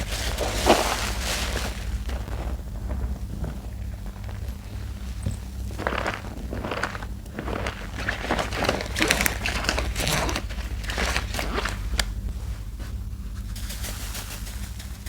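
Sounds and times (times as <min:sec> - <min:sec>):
soapy sponge squelching: 0:00.0 - 0:12.6.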